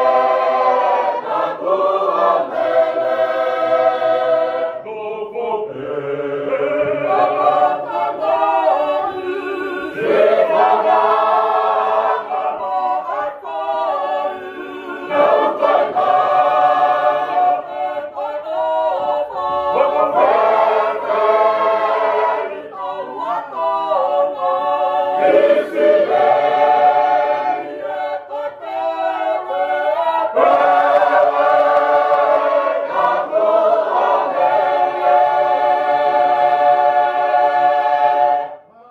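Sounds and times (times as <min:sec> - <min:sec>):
choir singing unaccompanied hymn: 0:00.0 - 0:38.9.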